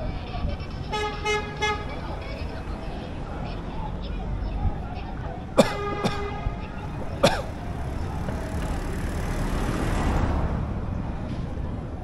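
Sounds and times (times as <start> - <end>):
passing vehicles: 0.0 - 12.0.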